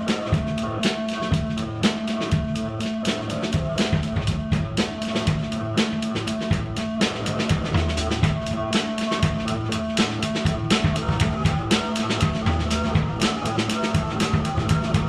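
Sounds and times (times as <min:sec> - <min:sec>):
held keyboard notes: 0:00.0 - 0:15.0
rapid drum kit hits: 0:00.0 - 0:15.0.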